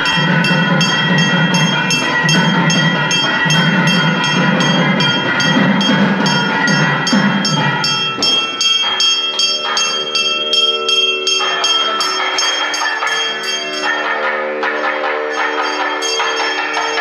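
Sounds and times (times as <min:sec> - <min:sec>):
temple bells clanging: 0:00.0 - 0:17.0.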